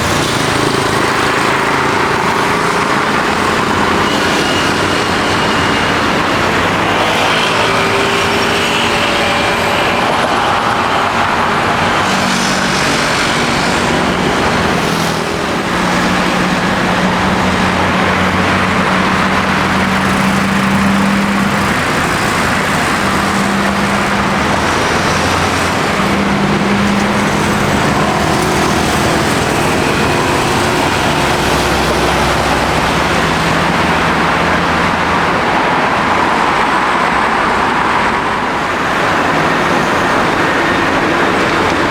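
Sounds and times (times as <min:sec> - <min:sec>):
cars and trucks passing: 0:00.0 - 0:41.9.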